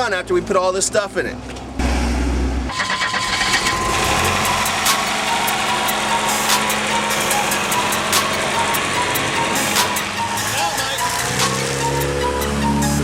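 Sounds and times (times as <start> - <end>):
car engine idling: 1.4 - 13.0.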